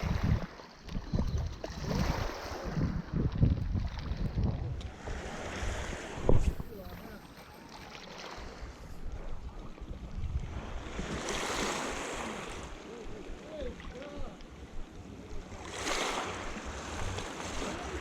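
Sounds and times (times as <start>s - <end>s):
wind rumble on microphone: 0.0s - 7.0s, 8.4s - 18.0s
sea waves breaking on shore: 0.0s - 18.0s.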